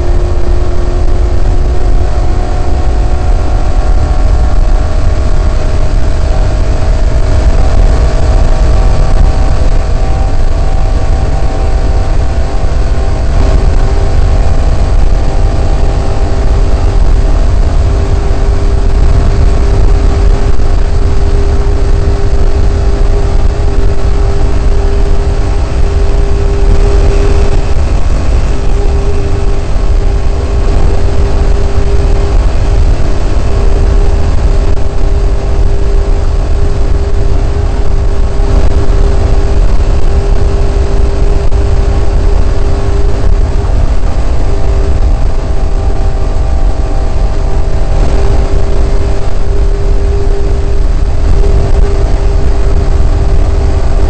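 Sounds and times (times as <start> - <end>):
heavy low rumble: 0.0 - 54.0
race car engine droning: 0.0 - 54.0.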